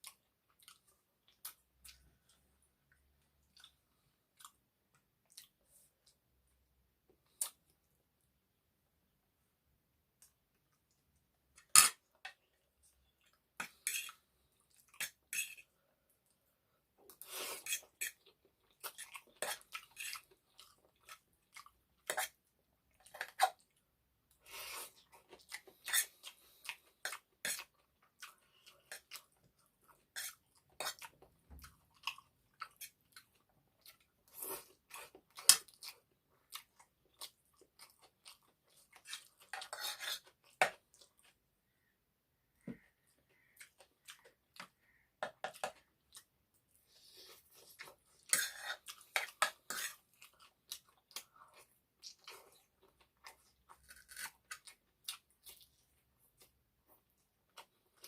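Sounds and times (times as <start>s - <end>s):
chewing and wet mouth sounds: 0.0s - 6.4s, 7.0s - 8.0s, 10.2s - 41.5s, 42.8s - 58.0s.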